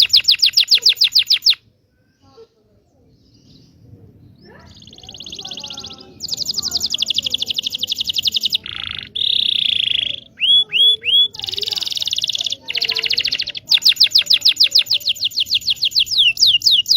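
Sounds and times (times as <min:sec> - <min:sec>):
canary singing trills: 0:00.0 - 0:16.9.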